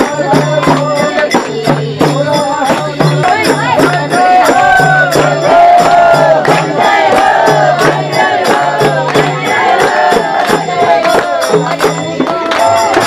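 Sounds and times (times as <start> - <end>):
group singing devotional song: 0.0 - 13.0
percussion beat: 0.0 - 13.0.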